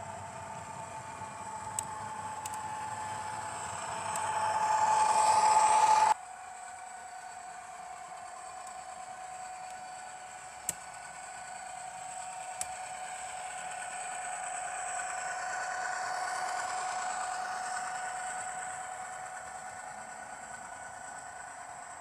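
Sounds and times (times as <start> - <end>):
model train running past: 0.0 - 22.0
steady high whine: 0.0 - 22.0.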